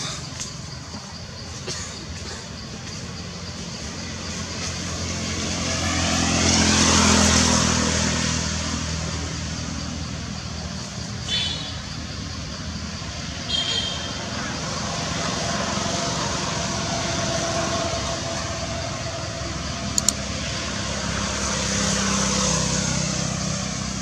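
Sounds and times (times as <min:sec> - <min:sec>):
vehicle passing by: 0:03.3 - 0:13.5, 0:14.1 - 0:24.0.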